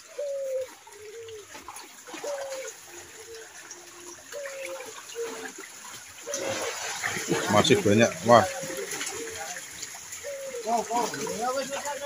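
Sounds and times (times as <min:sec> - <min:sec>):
bird calling: 0:00.0 - 0:12.0
muddy water splashing: 0:00.0 - 0:12.0.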